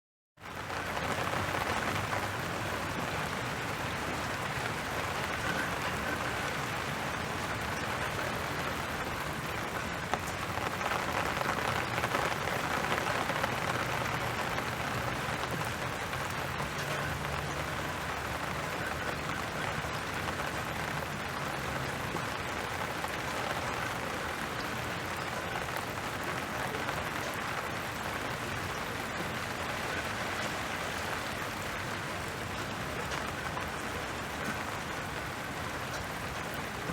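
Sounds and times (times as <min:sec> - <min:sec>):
steady rain falling: 0:00.4 - 0:36.9.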